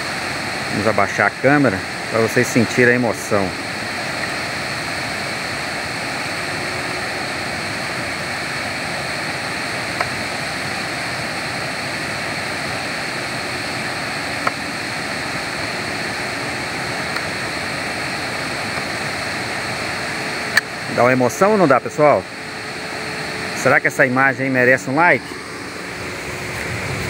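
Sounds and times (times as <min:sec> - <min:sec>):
waterfall rushing over rocks: 0:00.0 - 0:25.4.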